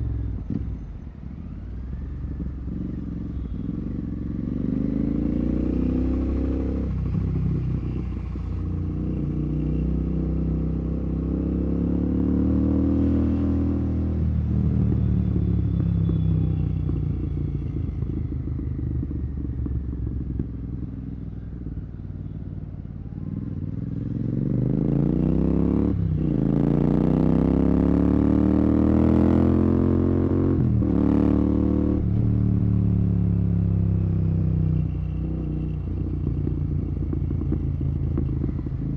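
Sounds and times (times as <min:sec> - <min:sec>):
motorcycle engine accelerating: 0:02.2 - 0:22.4, 0:23.0 - 0:38.9.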